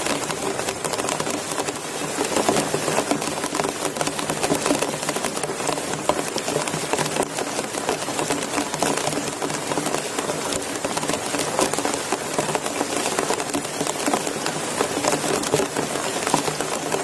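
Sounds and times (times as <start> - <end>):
heavy rain on a shelter: 0.0 - 17.0.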